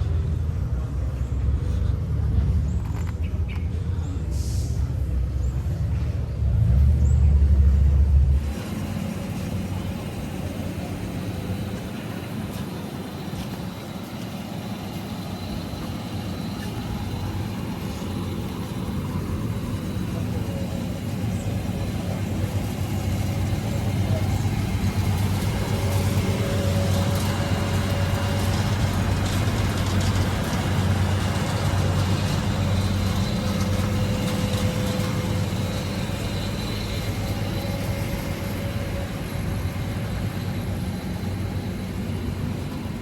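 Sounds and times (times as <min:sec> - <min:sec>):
car engine rumbling: 0:00.0 - 0:43.0
street hum: 0:00.0 - 0:43.0.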